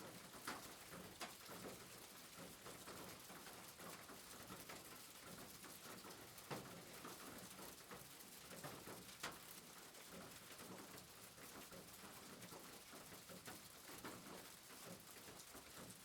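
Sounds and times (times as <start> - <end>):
faint rain pattering: 0.0 - 16.0.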